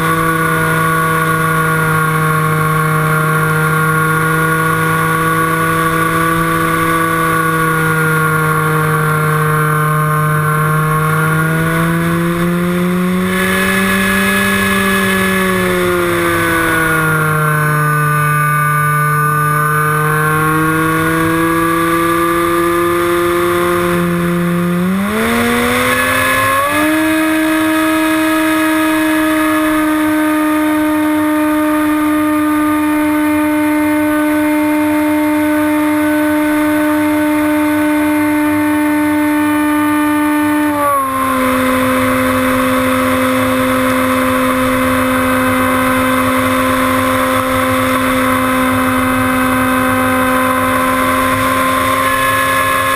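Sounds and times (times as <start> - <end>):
electric motor propeller droning: 0.0 - 52.9.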